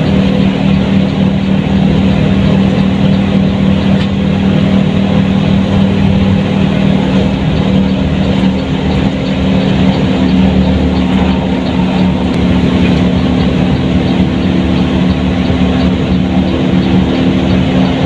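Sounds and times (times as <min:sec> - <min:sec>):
bus diesel engine droning: 0:00.0 - 0:18.0
road noise: 0:00.0 - 0:18.0.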